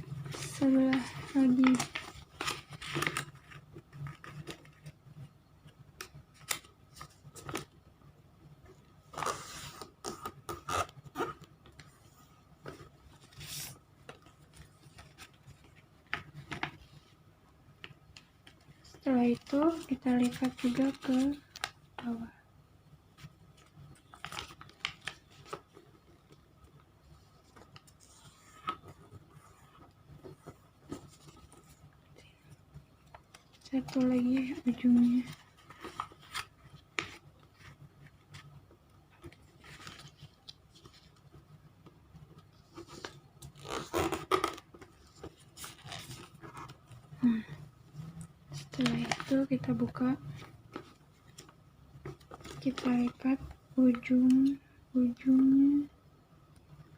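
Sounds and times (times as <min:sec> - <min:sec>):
paper folding crackles and clicks: 0:00.2 - 0:05.0, 0:05.7 - 0:07.8, 0:09.1 - 0:17.1, 0:17.8 - 0:22.3, 0:23.2 - 0:47.6, 0:48.2 - 0:55.5.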